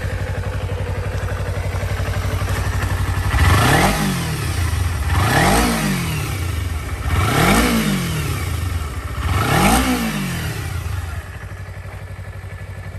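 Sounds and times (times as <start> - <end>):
motorcycle engine revving and idling: 0.0 - 12.9.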